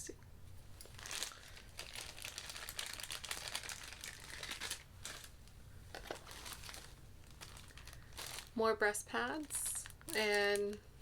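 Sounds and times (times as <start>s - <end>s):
packaging crinkling: 0.8s - 11.0s.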